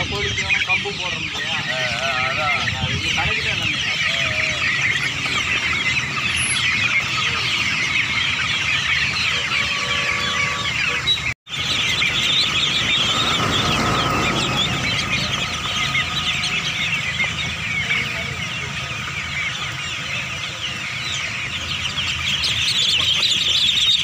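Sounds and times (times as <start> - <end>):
ducklings peeping: 0.0 - 24.0.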